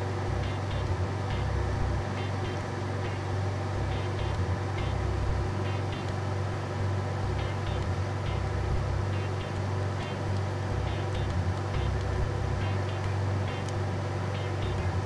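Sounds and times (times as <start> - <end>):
air blower humming: 0.0 - 15.0.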